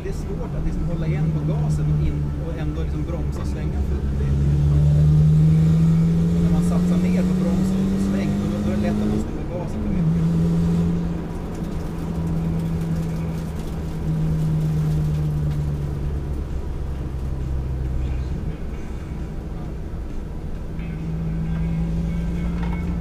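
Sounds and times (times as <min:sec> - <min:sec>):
car engine droning: 0:00.0 - 0:23.0
low road rumble: 0:00.0 - 0:23.0.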